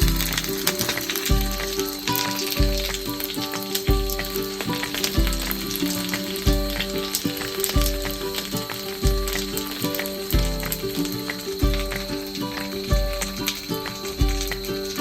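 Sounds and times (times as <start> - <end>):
background music with heavy beat: 0.0 - 15.0
dumplings sizzling in a pan: 0.0 - 15.0.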